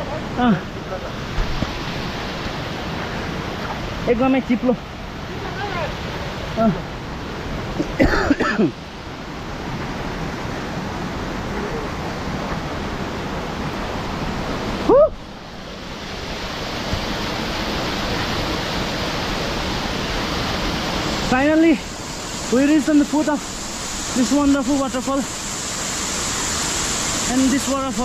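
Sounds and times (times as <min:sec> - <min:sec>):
stream rushing below waterfall: 0:00.0 - 0:28.0.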